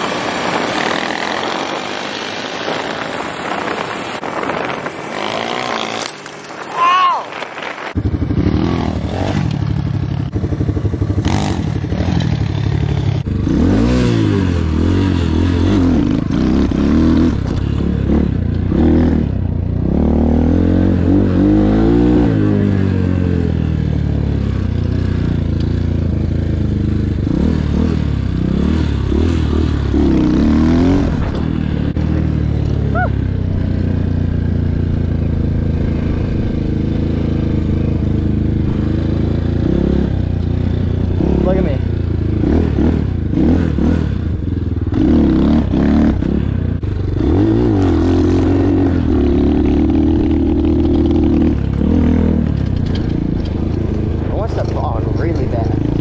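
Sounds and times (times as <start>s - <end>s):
dirt bike engine revving: 0.0s - 6.6s, 7.6s - 56.0s.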